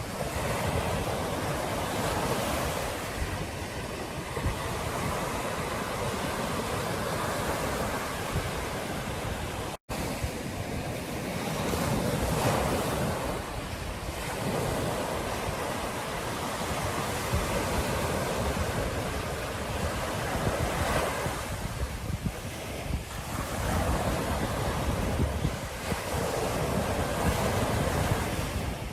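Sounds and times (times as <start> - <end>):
ocean surf breaking: 0.0 - 28.9
wind buffeting microphone: 0.0 - 28.9.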